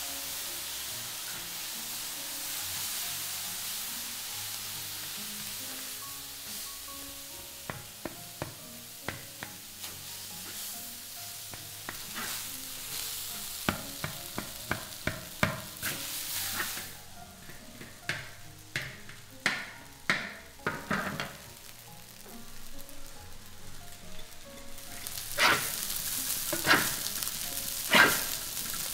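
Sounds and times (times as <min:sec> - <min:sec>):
rice sizzling in a wok: 0:00.0 - 0:28.9
spatula scraping wok: 0:00.0 - 0:28.9.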